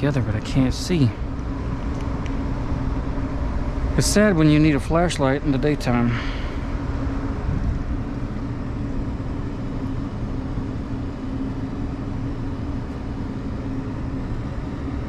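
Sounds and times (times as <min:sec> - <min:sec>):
refrigeration equipment humming: 0:00.0 - 0:15.0.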